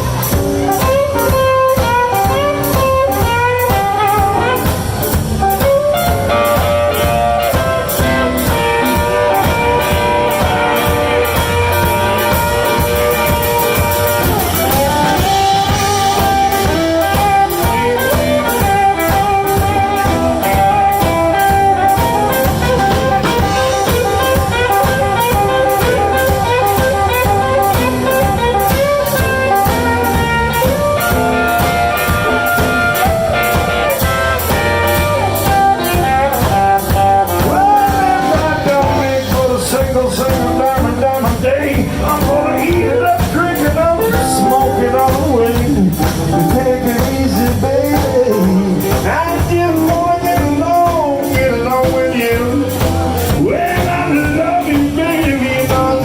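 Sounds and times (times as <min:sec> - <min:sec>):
blues band playing: 0:00.0 - 0:56.0
steady drum beat: 0:00.0 - 0:56.0.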